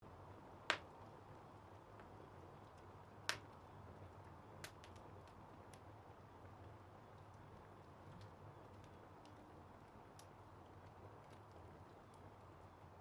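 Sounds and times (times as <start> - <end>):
faint steady hiss: 0.0 - 13.0
fireplace fire crackling: 0.0 - 13.0.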